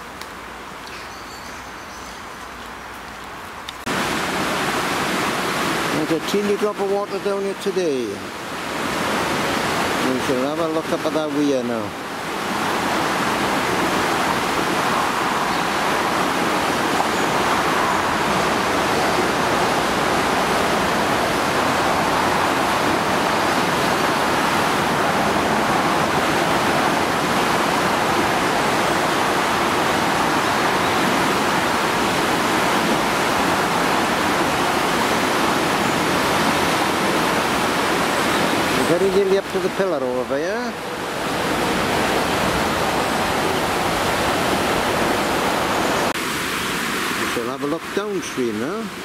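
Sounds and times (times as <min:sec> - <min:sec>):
river rushing over rocks: 0:03.3 - 0:49.0.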